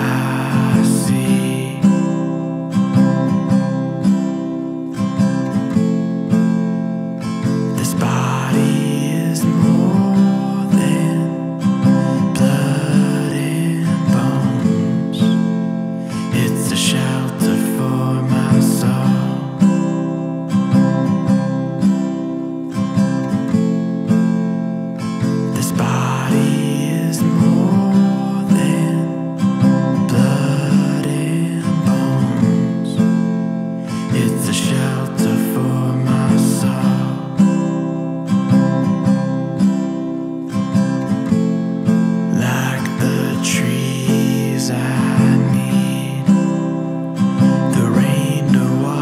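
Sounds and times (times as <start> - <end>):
acoustic guitar chords: 0.0 - 49.0.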